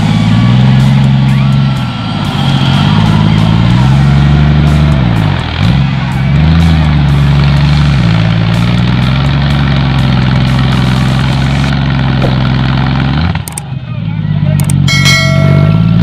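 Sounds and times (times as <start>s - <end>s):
buggy engine revving under load: 0.0s - 16.0s.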